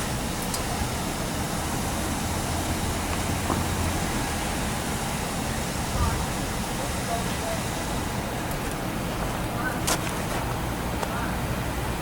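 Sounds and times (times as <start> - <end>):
idling vehicle engines hum: 0.0 - 12.0.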